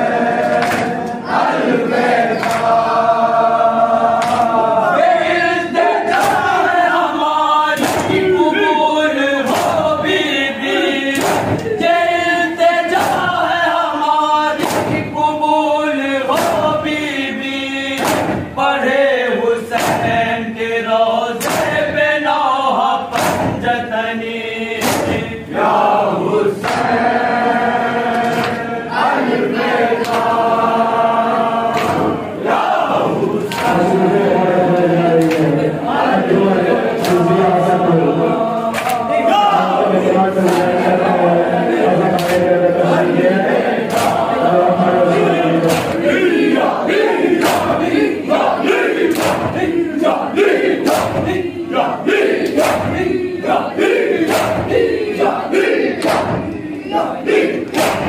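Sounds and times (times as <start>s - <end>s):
men chanting a lament: 0.0s - 58.0s.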